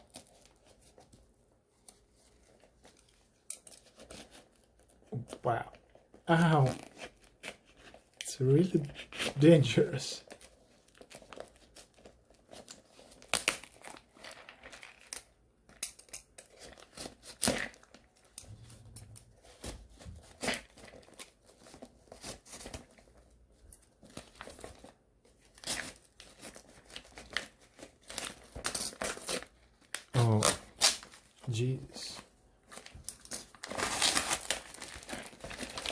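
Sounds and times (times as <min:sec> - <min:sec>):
packaging tearing and crinkling: 0:00.0 - 0:01.0, 0:05.9 - 0:35.9.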